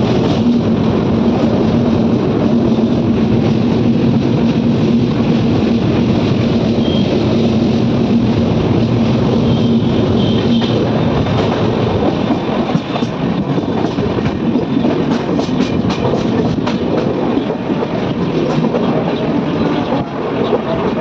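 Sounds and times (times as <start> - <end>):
train coaches rumbling: 0.0 - 21.0
wheels clattering on rails: 0.0 - 21.0.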